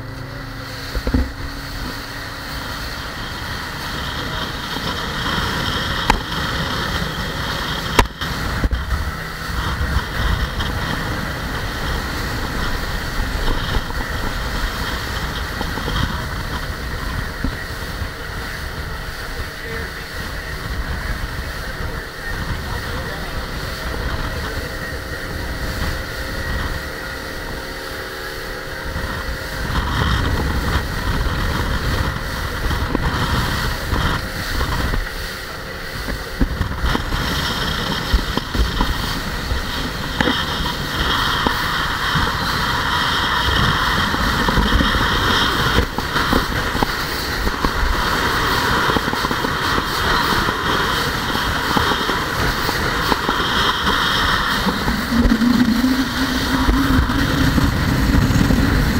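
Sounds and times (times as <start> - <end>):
boat engine drone: 0.0 - 58.9
water rushing along hull: 0.0 - 58.9.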